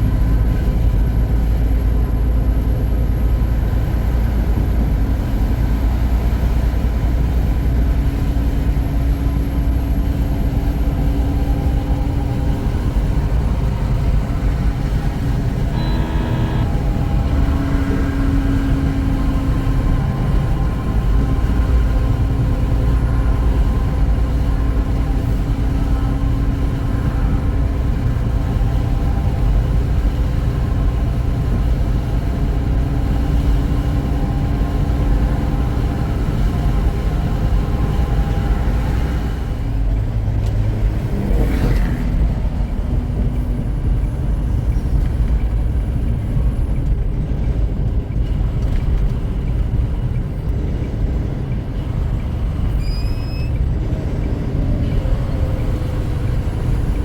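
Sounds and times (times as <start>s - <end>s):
road noise: 0.0s - 57.0s
truck diesel engine: 0.0s - 57.0s.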